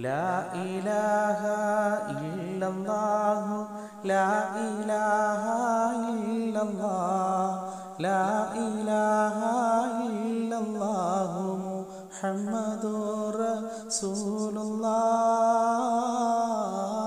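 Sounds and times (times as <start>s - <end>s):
person singing devotional chant: 0.0s - 17.0s.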